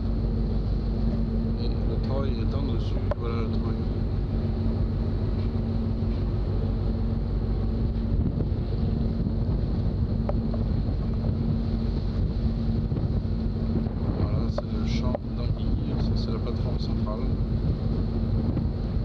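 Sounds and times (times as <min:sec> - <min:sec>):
boat engines droning: 0:00.0 - 0:19.0
wind buffeting microphone: 0:00.0 - 0:19.0.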